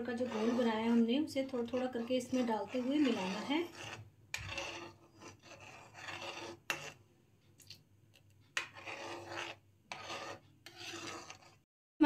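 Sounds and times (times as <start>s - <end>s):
metal ladle scraping a metal pot: 0.0s - 7.0s, 8.5s - 11.7s.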